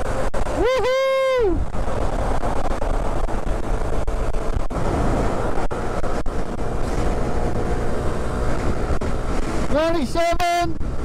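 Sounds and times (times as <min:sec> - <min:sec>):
motorcycle engine running hard: 0:00.0 - 0:11.0
wind rush on microphone: 0:00.0 - 0:11.0.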